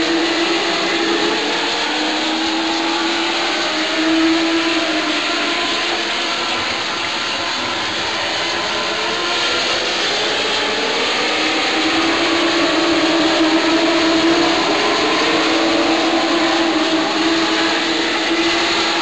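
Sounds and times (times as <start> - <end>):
racing car engines at high revs: 0.0 - 19.0.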